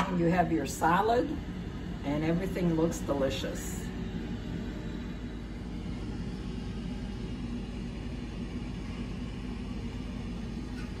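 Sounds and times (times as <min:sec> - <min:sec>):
low mechanical hum and rumble: 0:00.0 - 0:11.0.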